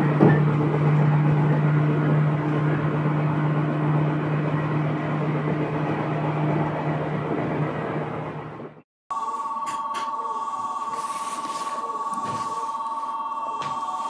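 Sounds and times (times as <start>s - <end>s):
electric train low hum: 0.0s - 14.0s.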